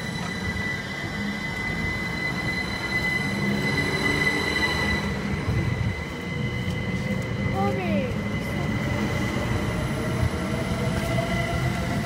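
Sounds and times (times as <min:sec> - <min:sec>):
train high whine: 0:00.0 - 0:12.0
train wheel rumble: 0:00.0 - 0:12.0.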